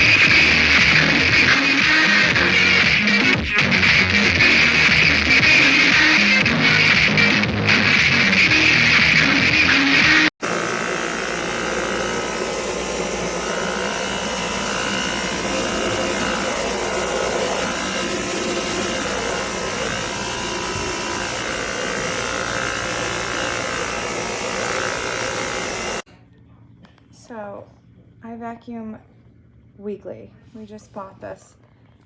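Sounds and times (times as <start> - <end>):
vacuum cleaner running: 0.0 - 26.1.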